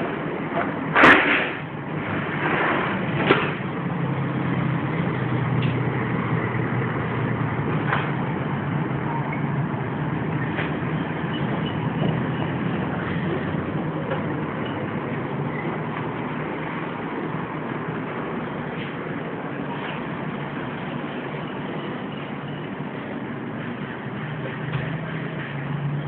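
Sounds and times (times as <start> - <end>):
road traffic: 0.0 - 26.0
vehicle engine hum: 0.0 - 26.0.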